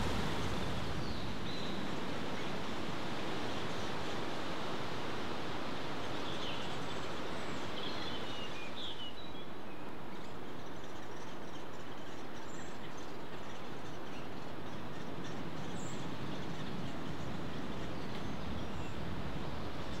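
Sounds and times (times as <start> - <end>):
rushing woodland background noise: 0.0 - 20.0.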